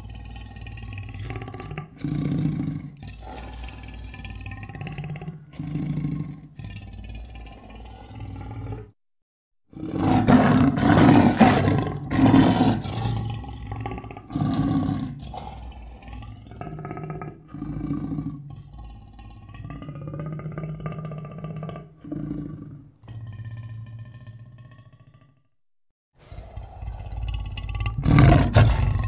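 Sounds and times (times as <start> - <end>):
creature roars and growls: 0.0 - 9.0, 9.7 - 25.5, 26.2 - 29.0.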